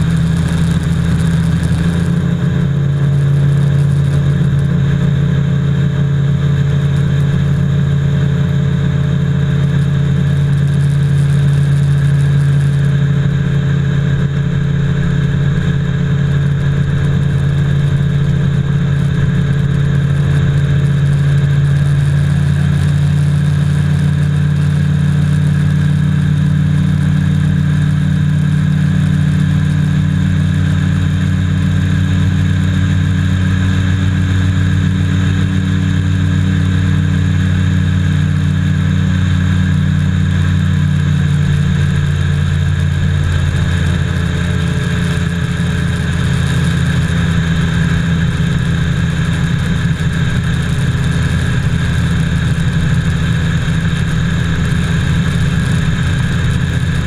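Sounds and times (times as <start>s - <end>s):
boat engine running at speed: 0.0s - 57.0s.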